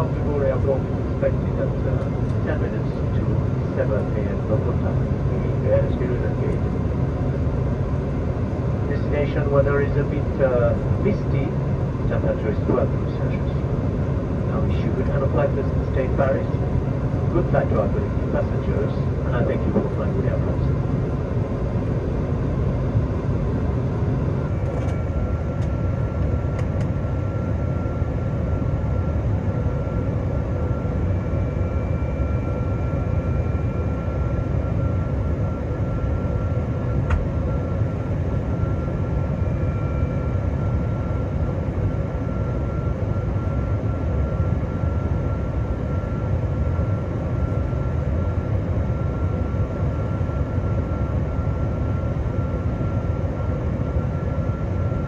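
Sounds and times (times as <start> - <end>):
airliner cabin airflow and engine hum: 0.0 - 55.0
faint steady whine: 0.0 - 55.0.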